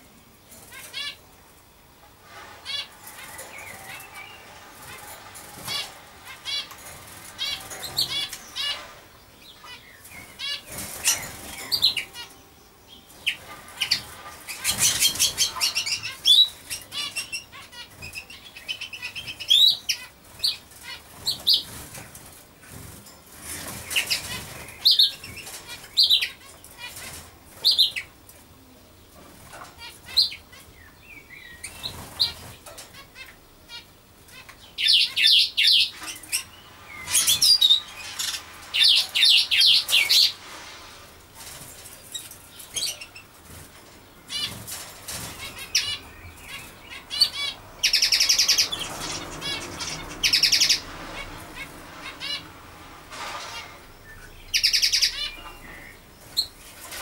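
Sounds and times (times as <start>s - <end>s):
small birds chirping: 0.0s - 40.4s, 41.4s - 52.6s, 54.0s - 57.0s.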